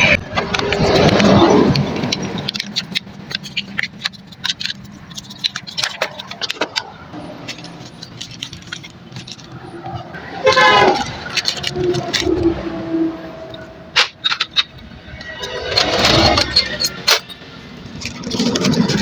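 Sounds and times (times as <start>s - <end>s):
small metal parts clicking: 0.0s - 12.8s, 13.4s - 19.0s.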